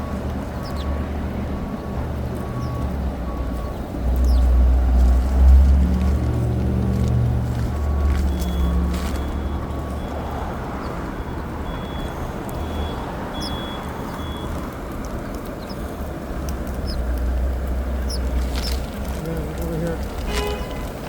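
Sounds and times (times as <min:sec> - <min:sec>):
traffic engine rumble: 0:00.0 - 0:21.0.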